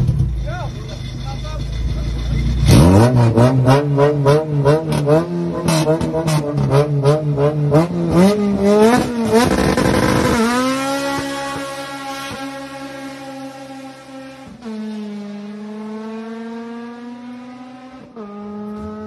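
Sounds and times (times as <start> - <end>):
car engine bouncing off rev limiter: 0.0 - 19.0
car accelerating away: 1.9 - 19.0.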